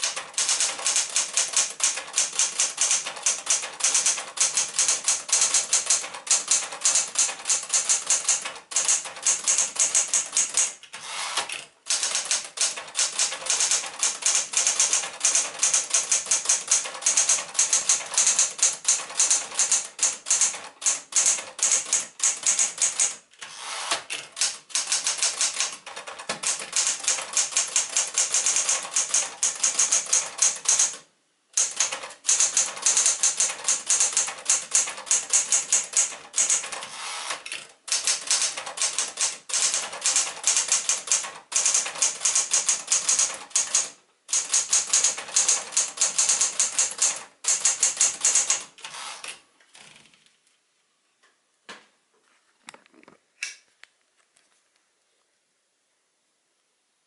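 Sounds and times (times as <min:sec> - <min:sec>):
typewriter keystrokes clattering: 0:00.0 - 0:50.0.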